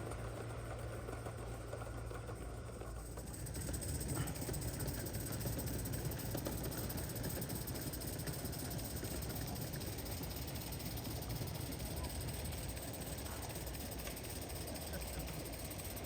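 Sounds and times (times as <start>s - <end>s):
model steam locomotive hiss and rumble: 0.0s - 16.0s.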